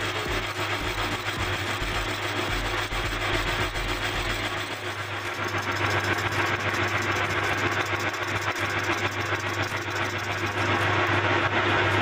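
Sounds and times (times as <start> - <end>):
lathe humming: 0.0 - 12.0.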